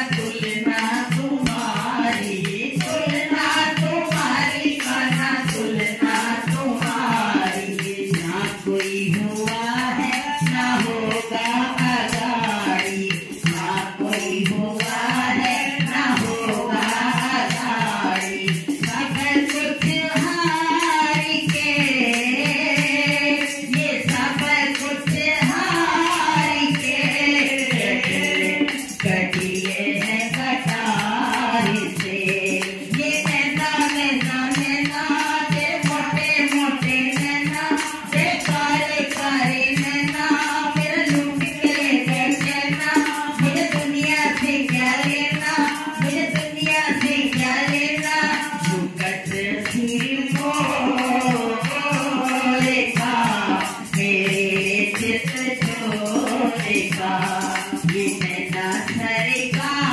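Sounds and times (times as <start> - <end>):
hand percussion beat: 0.0 - 59.9
women singing devotional song: 0.0 - 59.9.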